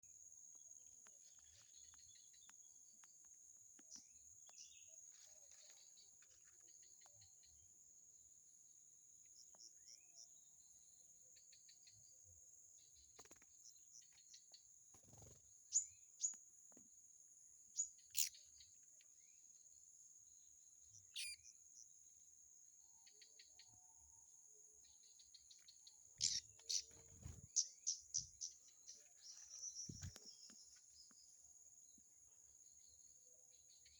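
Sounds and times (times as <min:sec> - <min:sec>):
small birds chirping: 0:00.0 - 0:22.0, 0:22.9 - 0:33.9.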